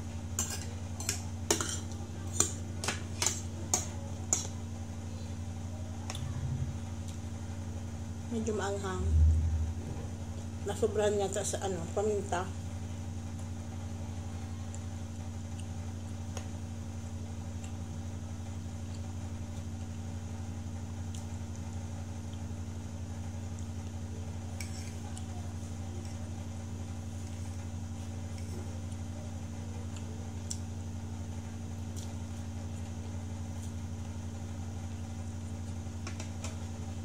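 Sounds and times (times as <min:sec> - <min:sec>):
appliance humming: 0:00.0 - 0:37.0.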